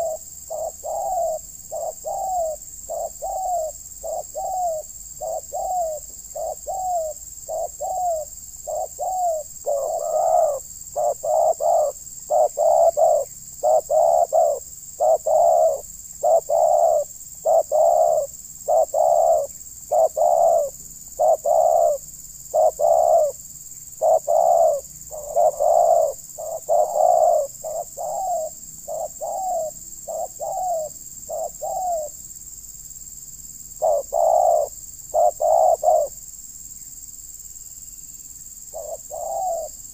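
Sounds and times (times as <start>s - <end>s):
dove cooing: 0.0s - 23.4s, 24.0s - 32.2s, 33.8s - 36.2s, 38.7s - 39.9s.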